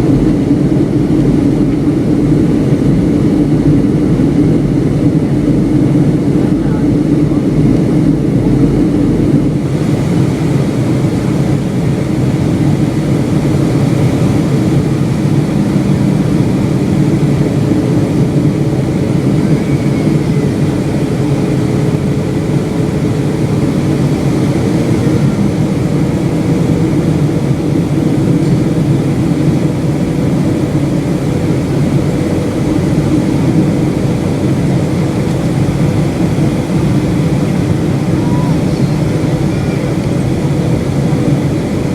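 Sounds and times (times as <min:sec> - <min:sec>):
airliner cabin engine roar: 0:00.0 - 0:41.9.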